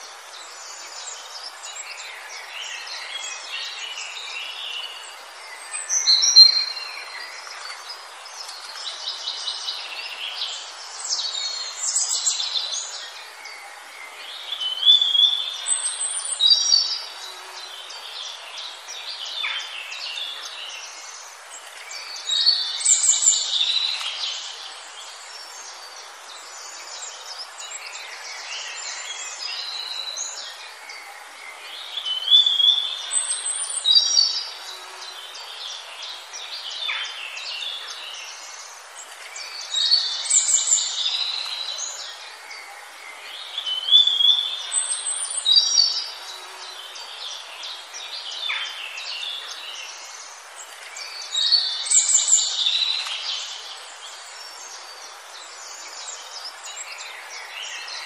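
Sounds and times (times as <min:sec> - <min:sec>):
outdoor hiss: 0:00.0 - 0:58.0
songbirds singing: 0:00.0 - 0:58.0.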